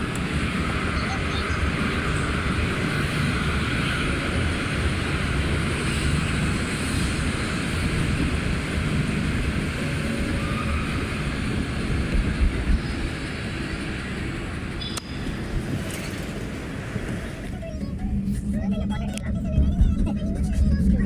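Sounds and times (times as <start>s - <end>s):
wind rush: 0.0s - 17.6s
car road and engine noise: 0.0s - 21.0s.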